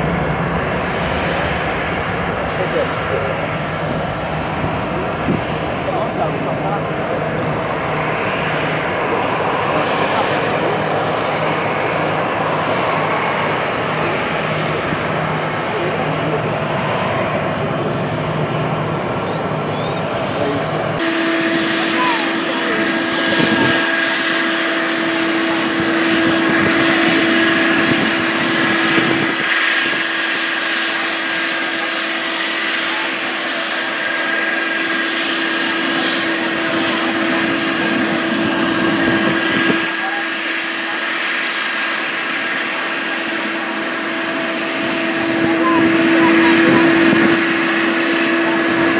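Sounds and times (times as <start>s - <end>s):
jet engine whine while taxiing: 0.0s - 48.9s
jet engines rumbling: 0.0s - 48.9s.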